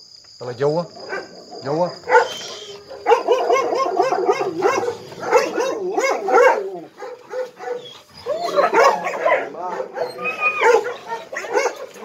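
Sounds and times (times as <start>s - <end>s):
dogs whining and yipping: 2.1s - 12.0s.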